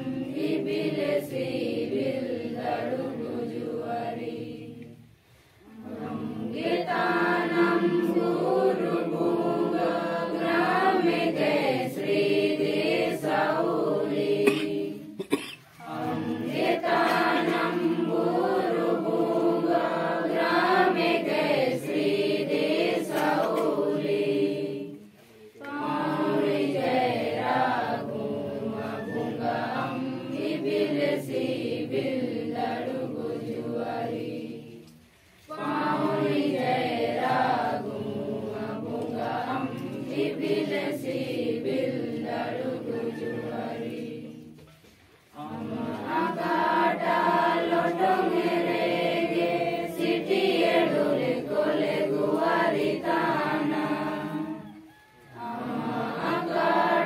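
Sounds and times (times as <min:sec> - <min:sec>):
group singing a prayer: 0:00.0 - 0:57.0.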